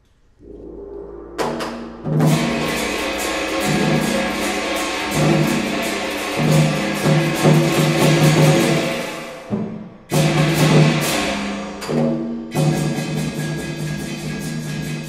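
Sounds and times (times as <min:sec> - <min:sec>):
gong and drum ensemble: 0:00.6 - 0:15.0
gong and drum strikes: 0:01.4 - 0:15.0
percussion crashes: 0:01.4 - 0:15.0.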